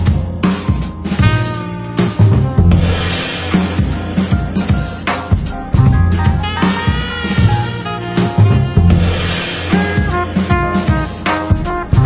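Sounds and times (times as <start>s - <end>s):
upbeat jazz music: 0.0s - 12.0s.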